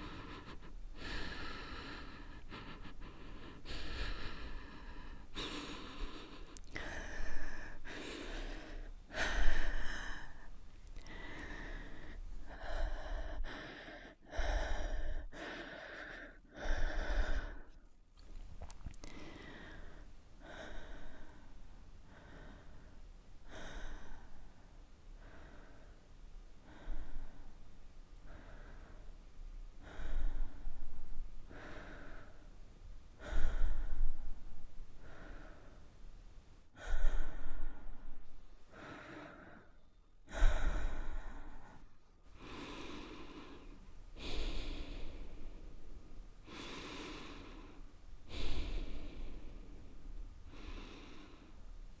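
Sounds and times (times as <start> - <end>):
woman breathing softly: 0.0 - 52.0.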